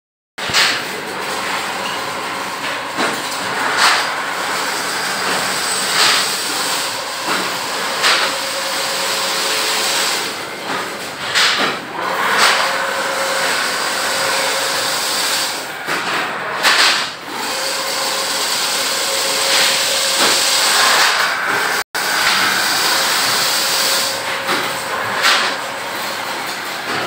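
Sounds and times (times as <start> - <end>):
steady mechanical noise: 0.4 - 27.0.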